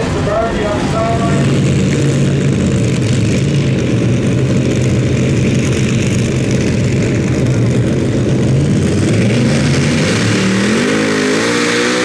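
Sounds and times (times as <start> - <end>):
tractor engine loud drone: 0.0 - 12.0.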